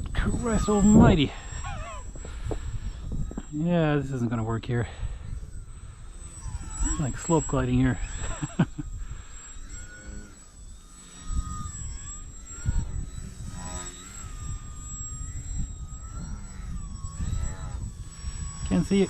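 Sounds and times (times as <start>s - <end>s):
wind buffeting microphone: 0.0s - 9.4s, 11.2s - 19.0s
model plane motor whining: 0.0s - 19.0s.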